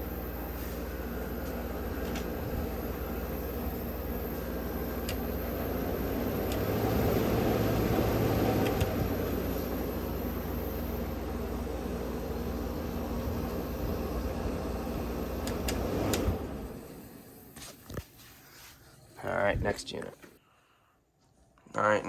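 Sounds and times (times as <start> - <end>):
air conditioner fan and motor hum: 0.0 - 20.4.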